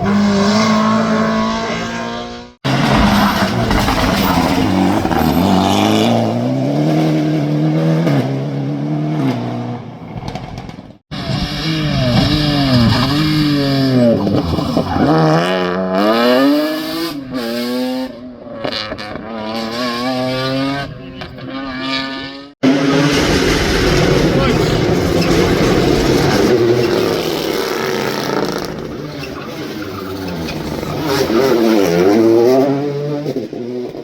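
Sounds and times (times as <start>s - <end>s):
rally car engines at full throttle: 0.0s - 34.0s.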